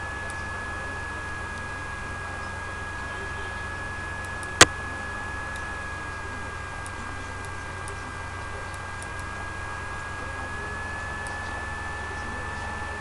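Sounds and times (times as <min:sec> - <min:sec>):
electrical hum and hiss: 0:00.0 - 0:13.0
high-pitched whine: 0:00.0 - 0:13.0.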